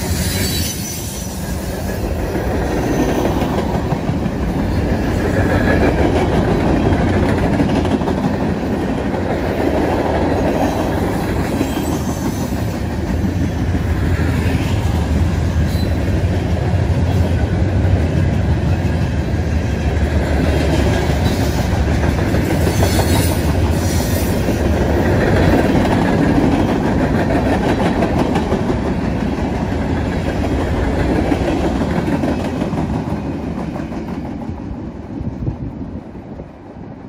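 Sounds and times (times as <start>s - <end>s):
freight cars rumbling on rails: 0.0s - 37.0s.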